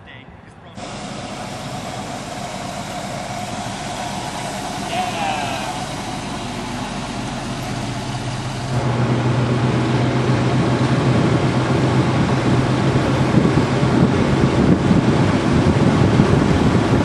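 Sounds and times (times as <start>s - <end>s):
rushing noise: 0.8s - 17.0s
vehicle engine low hum: 0.8s - 17.0s.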